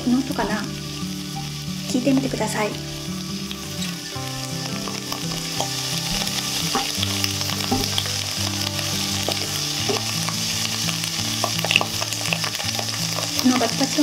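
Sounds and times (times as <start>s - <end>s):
food sizzling in a frying pan: 0.0s - 14.0s
sharp crackling pops: 0.0s - 14.0s
spatula turning food in pan: 0.0s - 14.0s.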